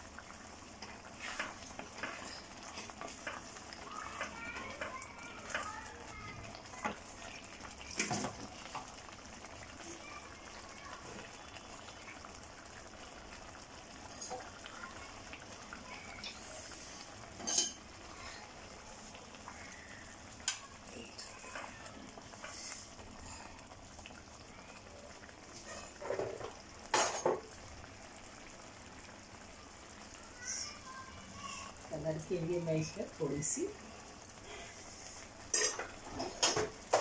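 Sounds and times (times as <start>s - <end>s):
curry simmering and sizzling: 0.0s - 37.0s.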